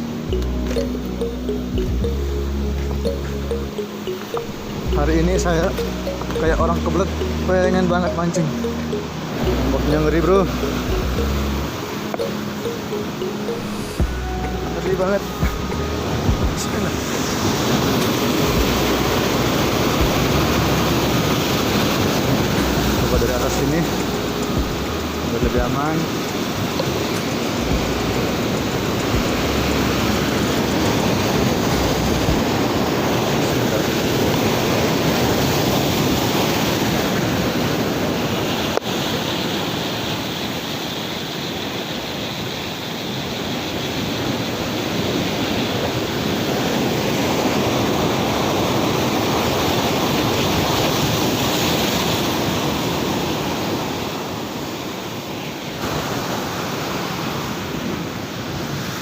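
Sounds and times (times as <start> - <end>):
rough sea surf breaking: 3.0 - 59.0.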